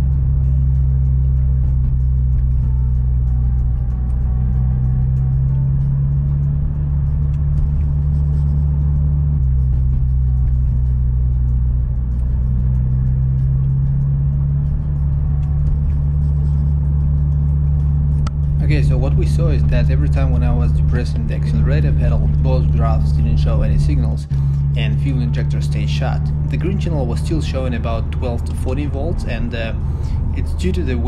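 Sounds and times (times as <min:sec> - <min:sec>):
car engine humming: 0:00.0 - 0:31.0.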